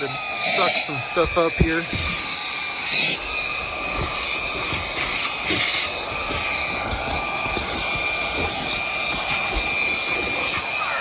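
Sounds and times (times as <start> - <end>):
handheld vacuum whining: 0.0 - 11.0
small knocks: 1.1 - 10.8.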